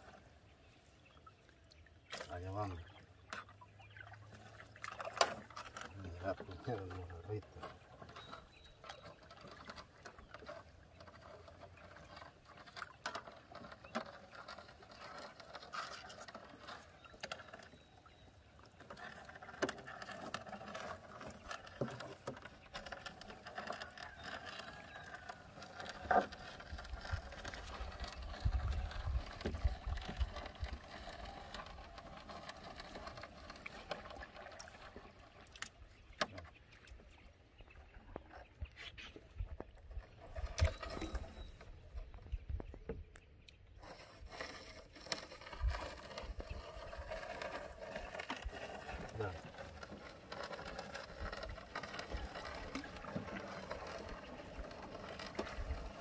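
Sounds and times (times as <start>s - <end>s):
water patter: 1.4s - 42.7s, 43.8s - 56.0s.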